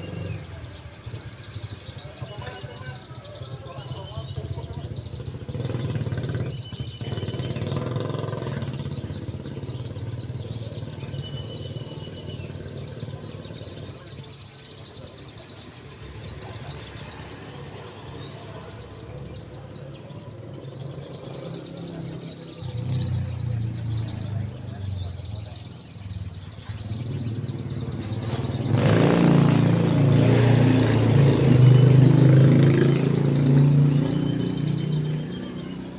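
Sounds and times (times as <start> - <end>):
birds chirping in high trills: 0.0 - 35.9.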